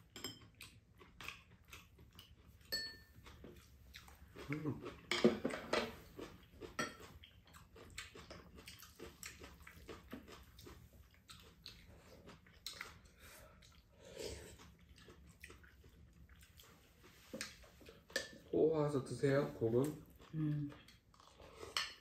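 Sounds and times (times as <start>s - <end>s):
soft chewing: 0.0s - 22.0s.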